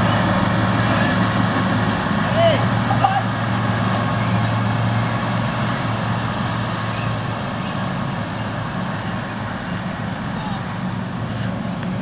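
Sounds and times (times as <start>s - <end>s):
riding lawn mower engines: 0.0s - 12.0s.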